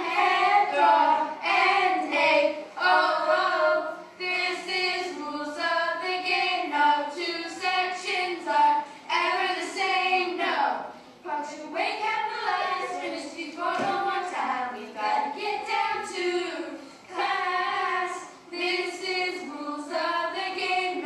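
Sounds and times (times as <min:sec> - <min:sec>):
children singing: 0:00.0 - 0:10.8, 0:11.4 - 0:21.0.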